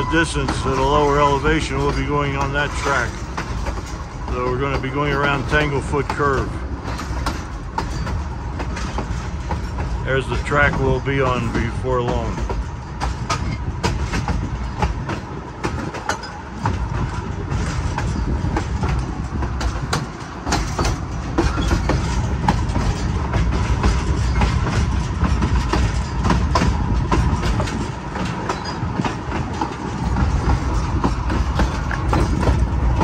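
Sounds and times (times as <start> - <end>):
train rolling rumble: 0.0 - 33.0
wheels clacking over rail joints: 0.0 - 33.0.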